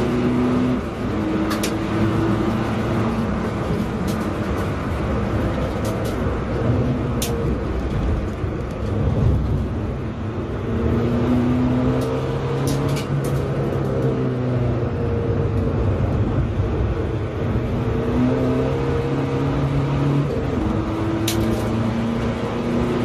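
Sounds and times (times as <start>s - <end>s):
tyre and road noise: 0.0s - 23.0s.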